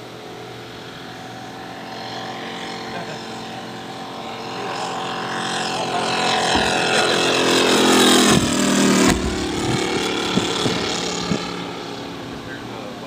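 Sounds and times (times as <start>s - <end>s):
model plane engine flypast: 0.0s - 13.0s.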